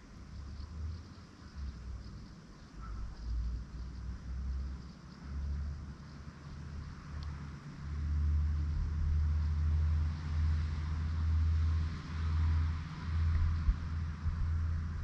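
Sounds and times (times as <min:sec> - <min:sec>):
faint outdoor hiss: 0:00.0 - 0:15.0
low rumble on microphone: 0:00.0 - 0:15.0.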